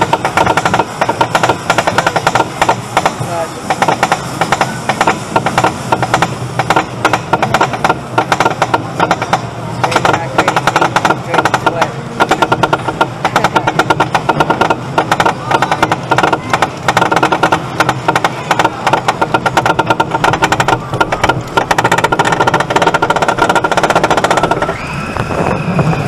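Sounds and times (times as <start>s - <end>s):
roller coaster car rolling: 0.0s - 26.0s
roller coaster lift chain clatter: 0.0s - 26.0s.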